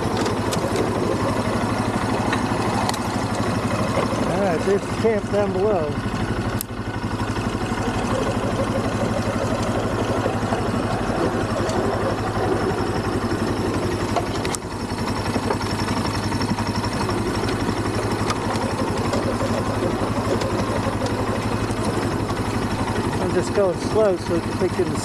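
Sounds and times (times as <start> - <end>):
quad engine running: 0.0 - 25.0.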